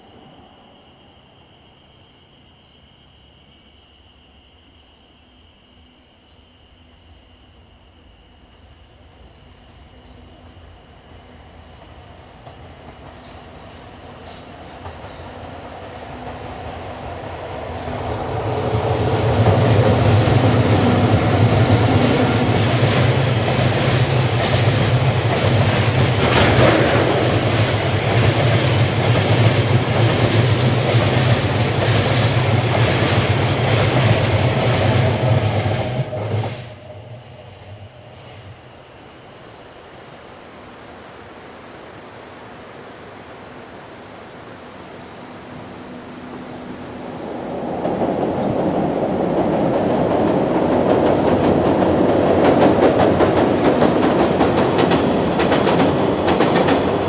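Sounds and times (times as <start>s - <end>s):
electric freight train passing: 0.0s - 40.2s, 43.1s - 57.0s
wheel and rail noise: 8.2s - 40.2s, 43.1s - 57.0s.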